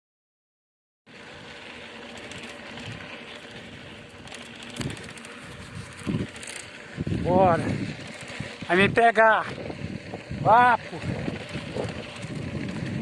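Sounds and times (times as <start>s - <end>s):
rushing wind: 1.5s - 13.0s.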